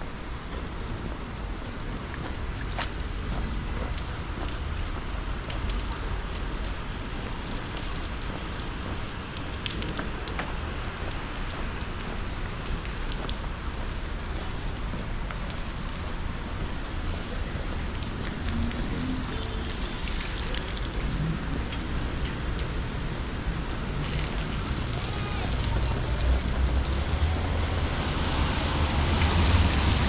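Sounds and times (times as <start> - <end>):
rain falling: 0.0 - 30.0
street traffic rumble: 0.0 - 30.0.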